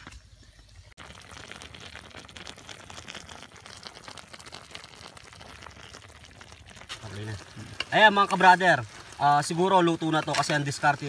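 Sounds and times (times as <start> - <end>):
sauce bubbling in a pan: 0.3 - 11.0.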